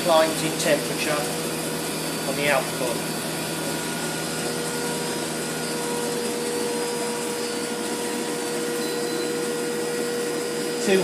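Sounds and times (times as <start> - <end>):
heater blower humming: 0.0 - 11.0.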